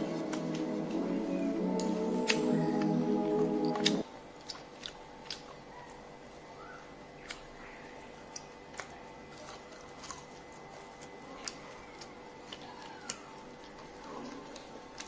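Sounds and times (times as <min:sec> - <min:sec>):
crunchy chewing: 0:00.0 - 0:15.0
faint steady hum: 0:00.0 - 0:15.0.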